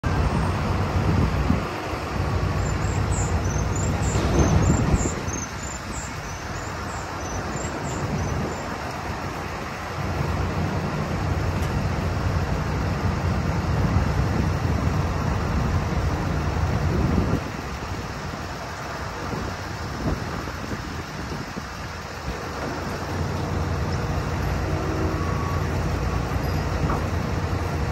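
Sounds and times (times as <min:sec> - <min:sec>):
diesel trucks rumbling: 0:00.0 - 0:27.9
road traffic: 0:00.0 - 0:27.9.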